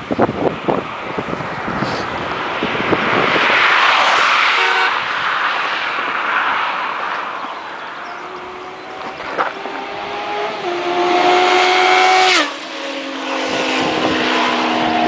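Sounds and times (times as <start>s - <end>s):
vehicle tyre and road noise: 0.0s - 15.0s.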